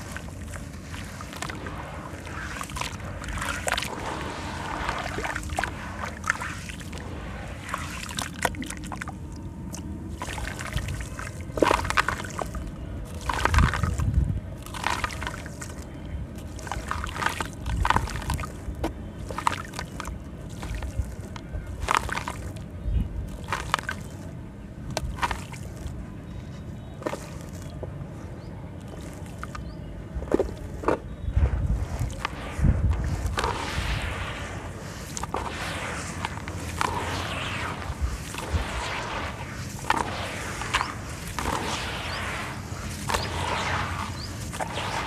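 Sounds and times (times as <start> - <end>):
slurry sloshing: 0.0 - 22.7, 23.3 - 26.0, 28.8 - 29.7, 30.3 - 45.0
sand crunching and pouring: 0.0 - 26.0, 27.0 - 27.8, 28.8 - 45.0.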